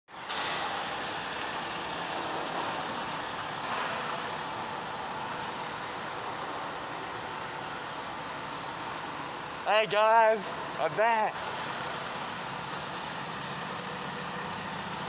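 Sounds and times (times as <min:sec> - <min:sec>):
fire engine diesel engine: 0:00.1 - 0:15.0.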